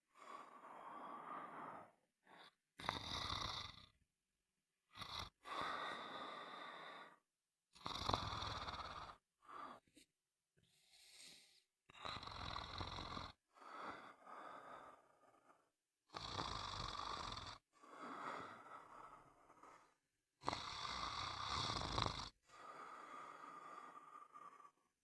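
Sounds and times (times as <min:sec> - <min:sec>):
person snoring: 0:00.1 - 0:04.0, 0:04.9 - 0:09.8, 0:11.0 - 0:24.9.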